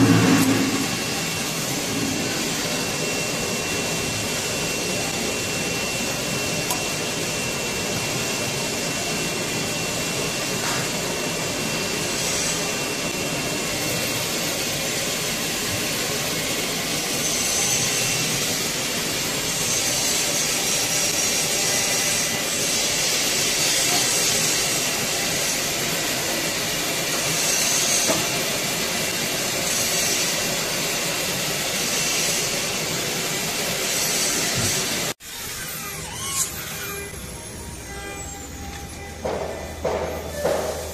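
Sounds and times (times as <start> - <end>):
rushing machinery noise: 0.0 - 40.9.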